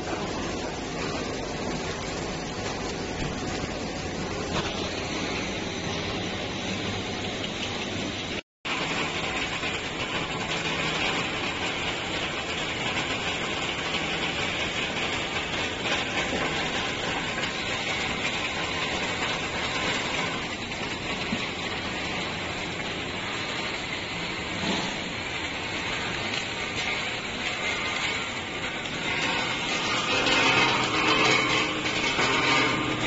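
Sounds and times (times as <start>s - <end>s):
conveyor machinery hum and hiss: 0.0s - 33.0s.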